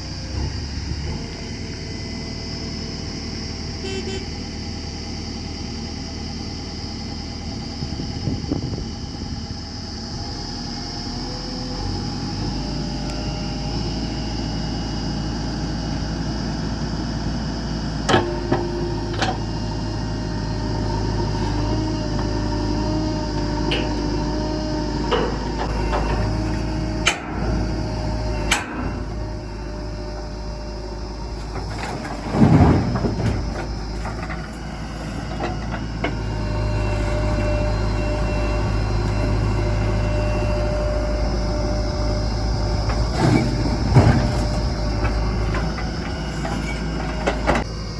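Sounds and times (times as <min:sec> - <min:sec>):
heavy diesel engine running: 0:00.0 - 0:47.9
loud heavy rumble: 0:06.8 - 0:47.9.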